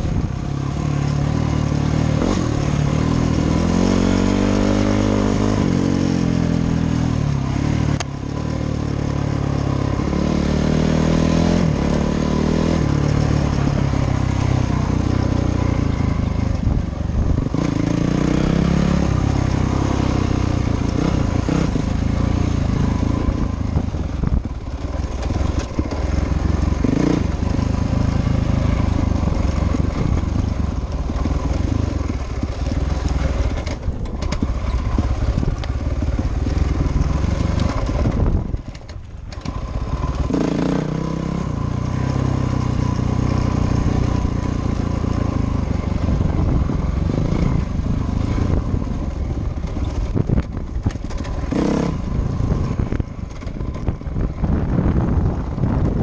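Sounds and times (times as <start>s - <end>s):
dirt bike engine revving: 0.0s - 38.6s, 39.3s - 56.0s.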